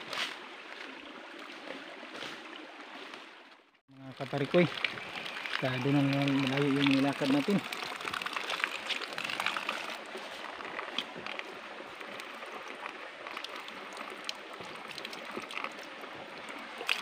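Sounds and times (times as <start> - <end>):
water trickling over rocks: 0.0 - 17.0.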